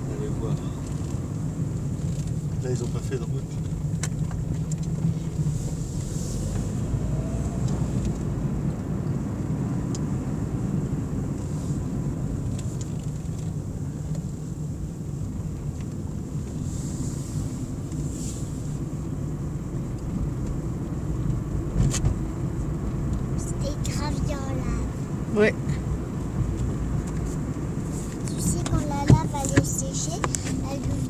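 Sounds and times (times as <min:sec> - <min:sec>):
engine and tyre rumble: 0:00.0 - 0:31.0.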